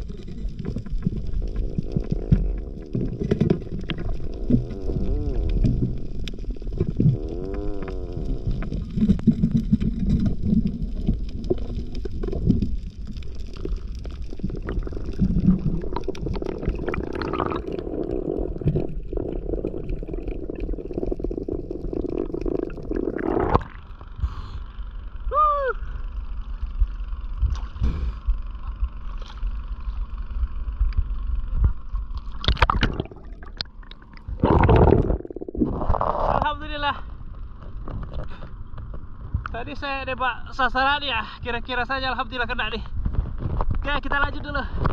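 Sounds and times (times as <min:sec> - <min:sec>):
underwater gurgling rumble: 0:00.0 - 0:44.9.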